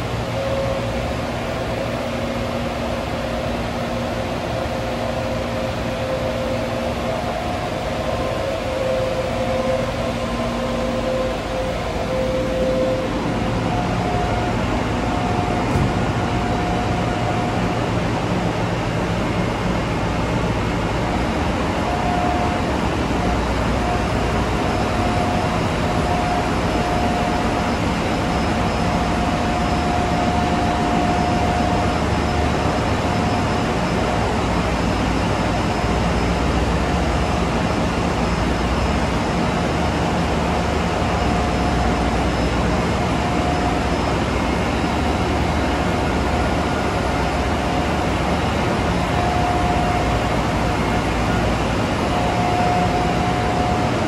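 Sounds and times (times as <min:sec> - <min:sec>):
engine room machinery running: 0:00.0 - 0:54.0
faint steady whine: 0:00.0 - 0:54.0.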